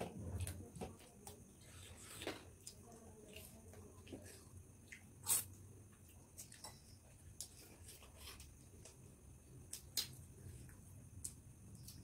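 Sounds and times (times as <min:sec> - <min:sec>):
people chewing with mouth clicks: 0:00.3 - 0:12.0.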